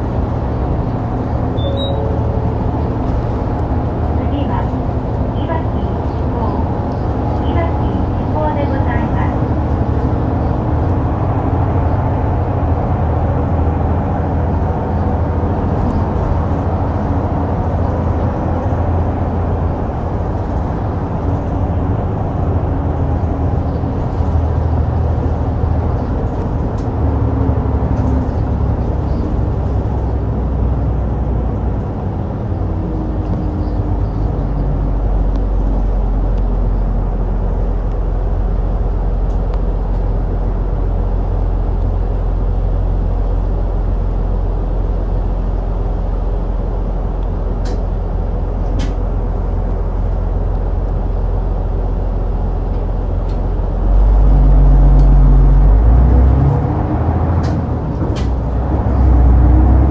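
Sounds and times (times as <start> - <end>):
bus diesel engine running: 0.0 - 59.9
road noise: 0.0 - 59.9.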